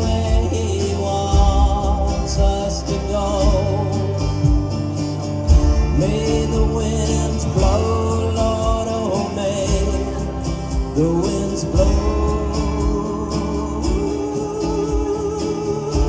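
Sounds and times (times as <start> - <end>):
bass: 0.0 - 16.0
guitar: 0.0 - 16.0
live country band playing: 0.0 - 16.0.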